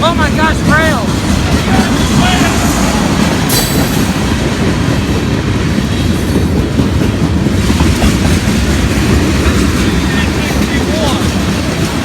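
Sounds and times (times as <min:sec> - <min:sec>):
freight train rumbling: 0:00.0 - 0:12.0
wheel clatter over rail joints: 0:00.0 - 0:12.0.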